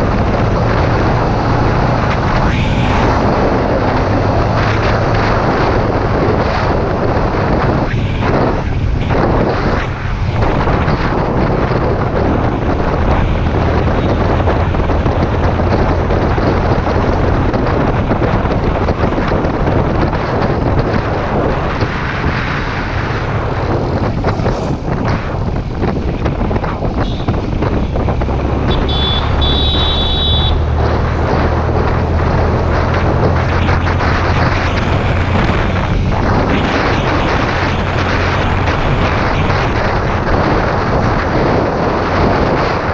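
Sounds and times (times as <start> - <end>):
motorcycle engine and tyres drone: 0.0 - 42.9
wind buffeting microphone: 0.0 - 42.9.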